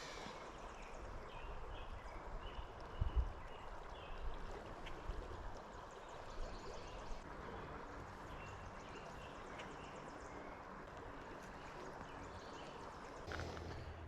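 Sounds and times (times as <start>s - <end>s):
creek water flowing: 0.0s - 14.0s.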